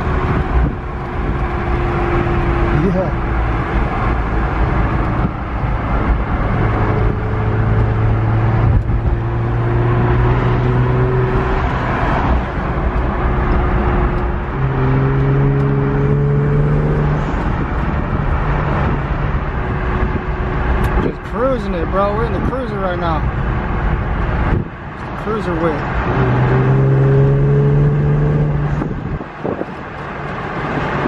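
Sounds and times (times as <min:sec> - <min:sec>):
car engine accelerating: 0:00.0 - 0:31.0
loud road noise: 0:00.0 - 0:31.0.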